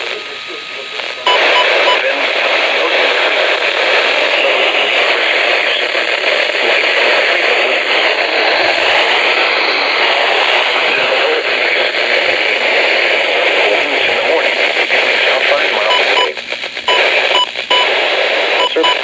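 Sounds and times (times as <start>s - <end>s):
radio static hiss with crackle: 0.0s - 19.0s.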